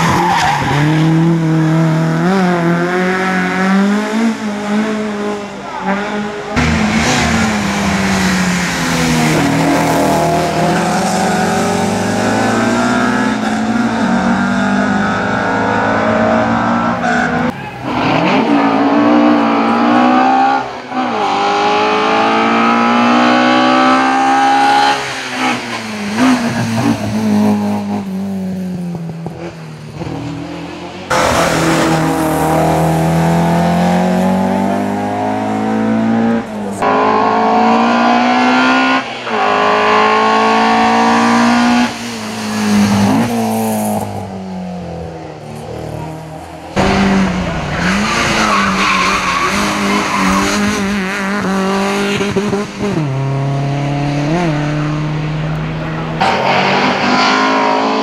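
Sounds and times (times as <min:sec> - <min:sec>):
racing car engines accelerating: 0:00.0 - 0:28.2, 0:29.2 - 0:58.0.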